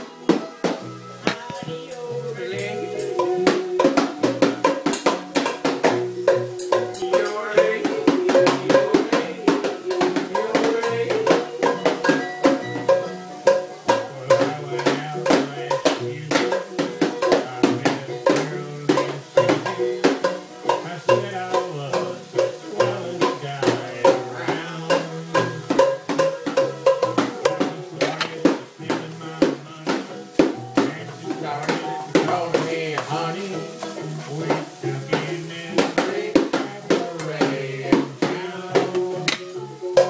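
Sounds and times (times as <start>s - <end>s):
song over percussive beat: 0.0s - 40.0s.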